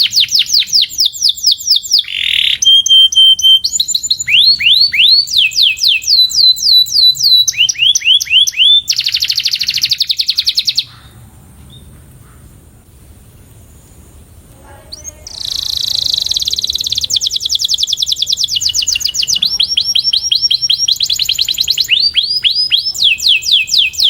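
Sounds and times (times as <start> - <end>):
canary singing: 0.0 - 11.9, 14.6 - 24.0.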